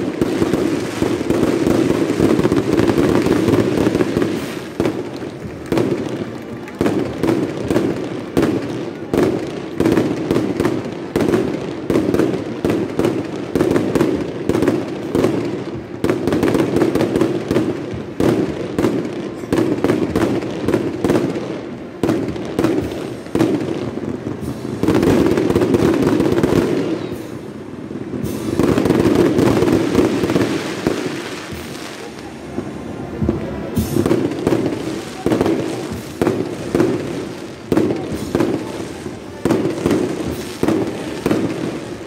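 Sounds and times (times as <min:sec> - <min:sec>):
firecrackers crackling: 0:00.0 - 0:42.0
large crowd din: 0:00.0 - 0:42.0.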